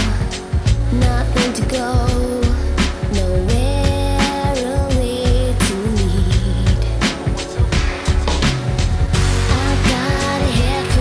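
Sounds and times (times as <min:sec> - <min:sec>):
soul song with bass and drums: 0:00.0 - 0:11.0.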